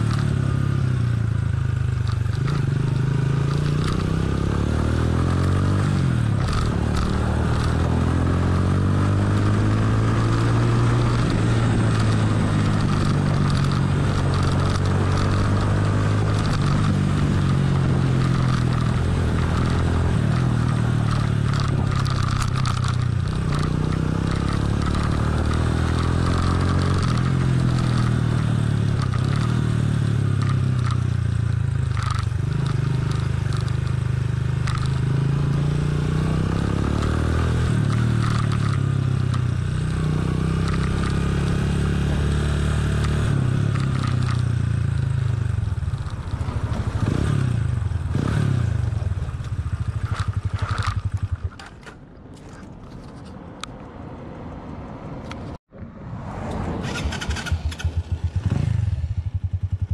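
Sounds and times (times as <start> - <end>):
motorcycle engine revving: 0.0 - 52.6, 56.3 - 59.9
knocks and rattles over potholes: 0.0 - 55.6.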